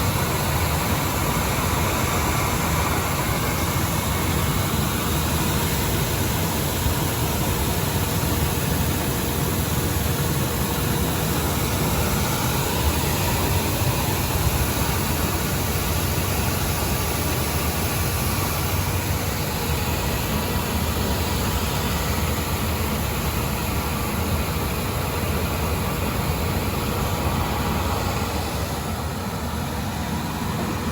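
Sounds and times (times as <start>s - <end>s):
milling machine running: 0.0s - 30.9s.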